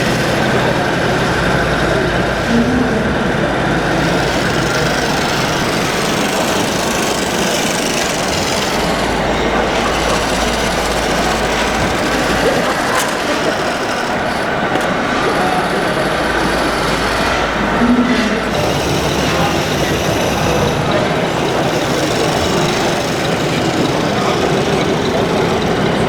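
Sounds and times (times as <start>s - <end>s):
model machines rumbling and rattling: 0.0s - 26.0s.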